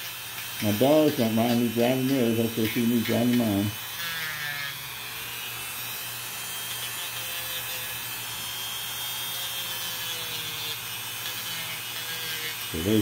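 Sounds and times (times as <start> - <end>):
rotary tool grinding nail: 0.0 - 13.0.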